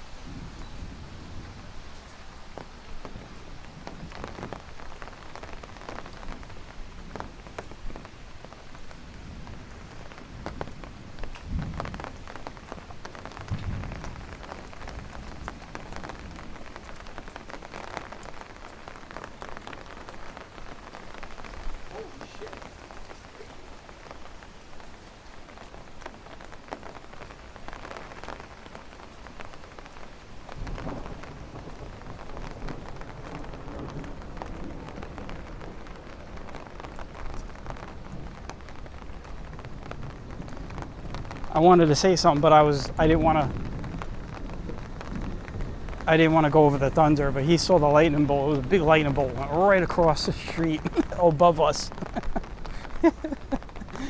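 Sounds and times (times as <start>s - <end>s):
rain falling: 0.0s - 54.0s
thunder rumbling: 0.0s - 54.0s.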